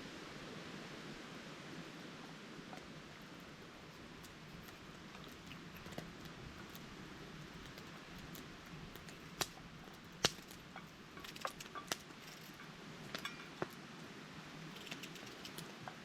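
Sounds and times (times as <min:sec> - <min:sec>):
campfire hissing: 0:00.0 - 0:16.0
fire crackles and pops: 0:02.7 - 0:16.0.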